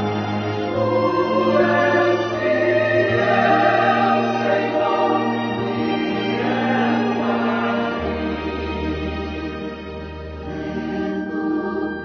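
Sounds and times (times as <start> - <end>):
choir singing held notes: 0.3 - 9.7, 10.4 - 12.0.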